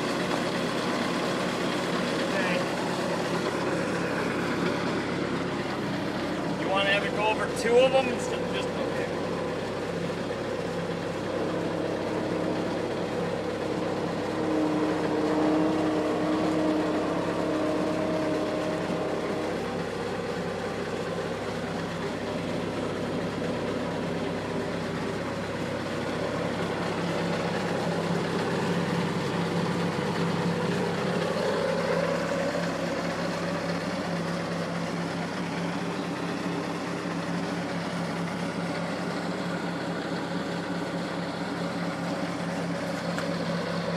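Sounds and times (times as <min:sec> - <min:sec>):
tracked vehicle engine running: 0:00.0 - 0:43.9.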